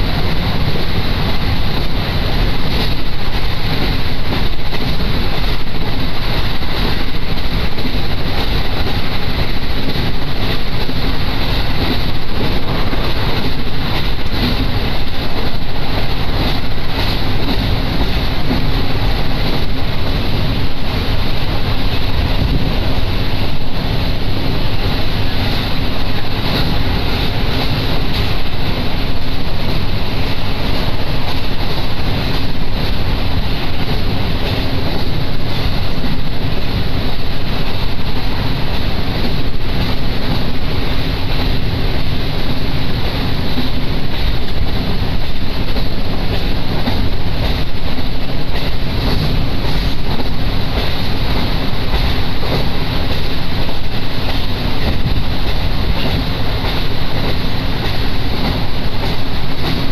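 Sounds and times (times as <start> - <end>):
diesel train running: 0.0 - 59.9
wind buffeting microphone: 0.0 - 59.9.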